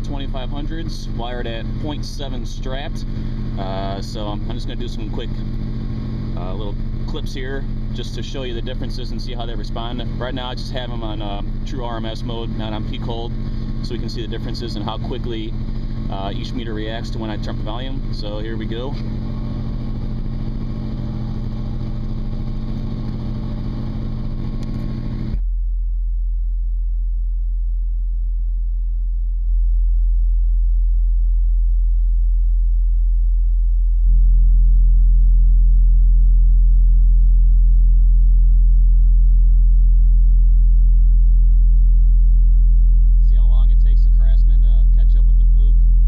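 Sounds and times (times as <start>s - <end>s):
subwoofer deep bass tone: 0.0s - 46.0s.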